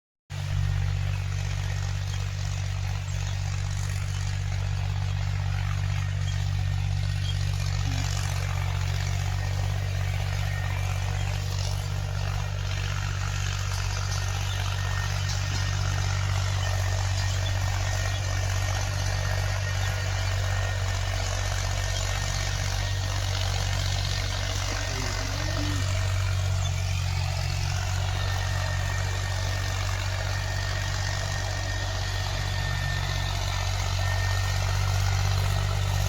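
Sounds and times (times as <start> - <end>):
tractor diesel engine running: 0.3 - 36.0.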